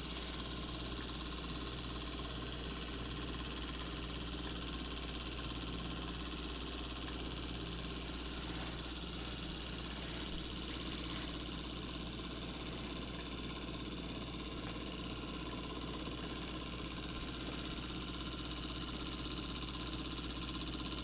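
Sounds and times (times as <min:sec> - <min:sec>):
small engine humming rhythmically: 0:00.0 - 0:21.0.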